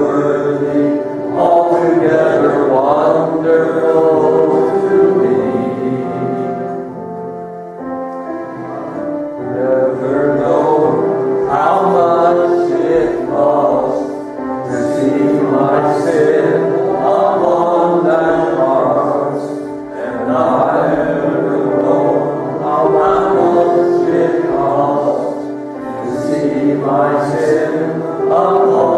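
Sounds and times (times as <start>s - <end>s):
congregation singing a hymn: 0.0s - 28.9s
instrumental accompaniment: 0.0s - 28.9s.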